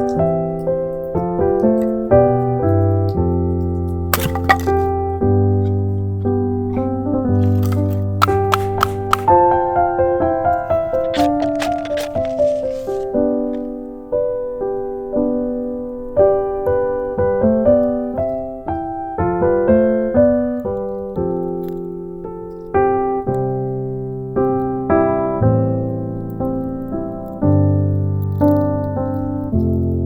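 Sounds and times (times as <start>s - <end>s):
solo piano melody: 0.0s - 11.2s, 13.0s - 30.0s.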